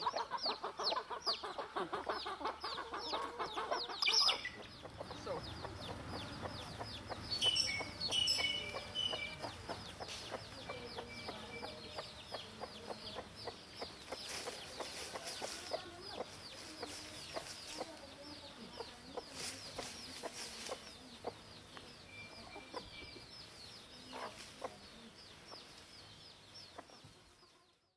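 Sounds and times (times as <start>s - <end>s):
hen clucking softly: 0.0s - 23.3s
chicks peeping: 0.0s - 27.8s.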